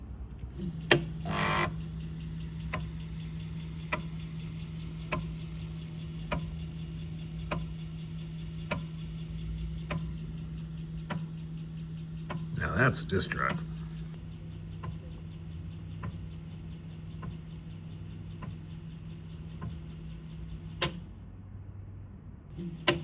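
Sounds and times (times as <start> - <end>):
stepper motor buzzing: 0.5 - 21.2, 22.5 - 23.0
stepper motor ticking: 0.5 - 21.2, 22.5 - 23.0
disk drive motor humming: 0.6 - 21.1, 22.5 - 23.0
drive head clicking: 0.6 - 21.1, 22.5 - 23.0.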